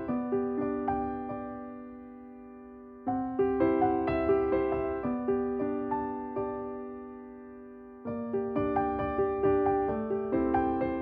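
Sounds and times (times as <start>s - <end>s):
soft piano melody: 0.0s - 11.0s.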